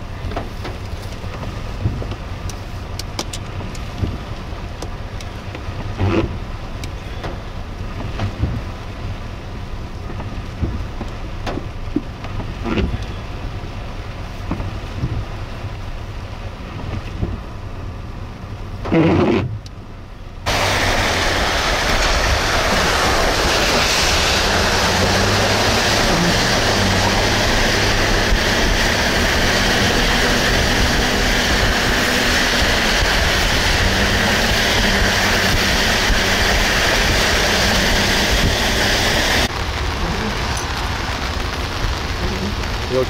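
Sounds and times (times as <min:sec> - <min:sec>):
outdoor noise: 0:00.0 - 0:43.0
vehicle road noise: 0:00.0 - 0:43.0.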